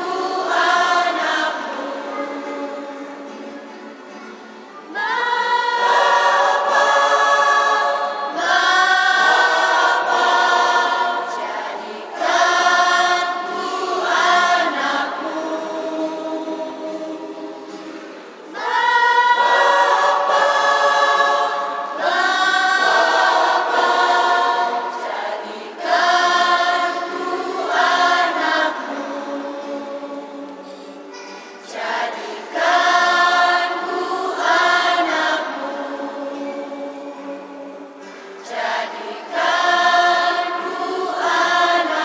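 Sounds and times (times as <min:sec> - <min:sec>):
mixed choir singing: 0:00.0 - 0:03.7, 0:04.9 - 0:42.0.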